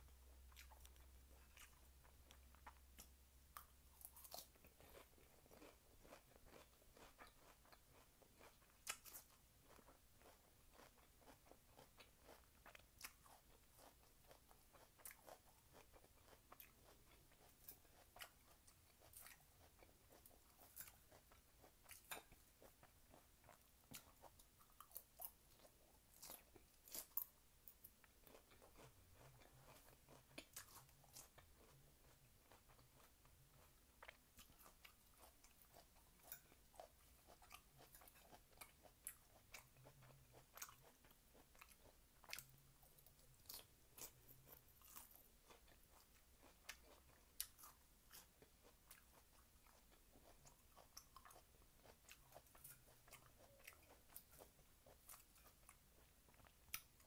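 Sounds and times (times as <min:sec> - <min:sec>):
chewing crunchy food: 0:00.0 - 0:57.0.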